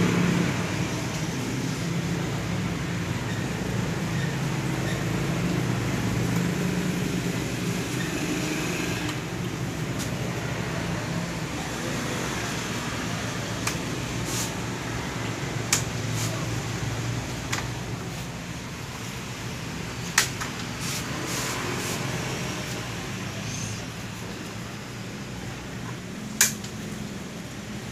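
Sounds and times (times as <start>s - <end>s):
fan-like hum and hiss: 0.0s - 27.9s.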